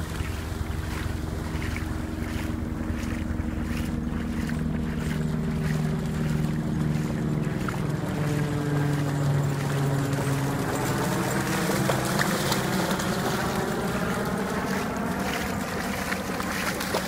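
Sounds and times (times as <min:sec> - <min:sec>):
dogs splashing through water: 0:00.0 - 0:17.0
steady low drone: 0:00.0 - 0:17.0.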